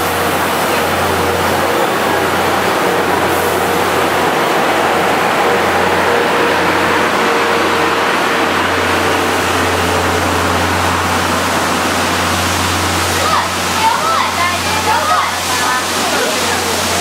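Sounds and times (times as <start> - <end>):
train rushing past: 0.0 - 17.0.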